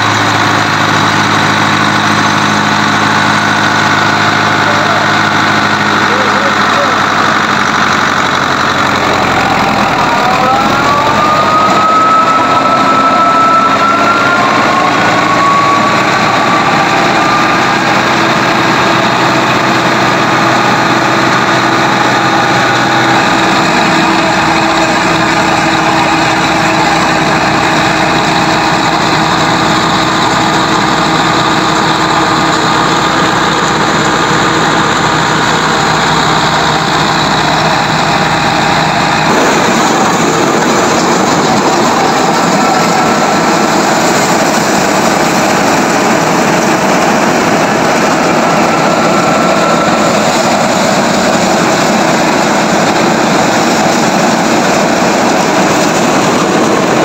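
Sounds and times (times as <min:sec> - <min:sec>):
machinery whine rising: 0:00.0 - 0:57.0
tractor diesel engine: 0:00.0 - 0:57.0.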